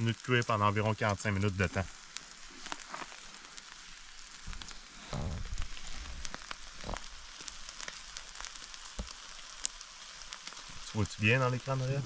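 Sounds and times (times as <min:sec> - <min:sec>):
steaks sizzling: 0:00.0 - 0:12.0
wood fire crackling: 0:00.0 - 0:12.0
deep rush of flames: 0:01.5 - 0:12.0.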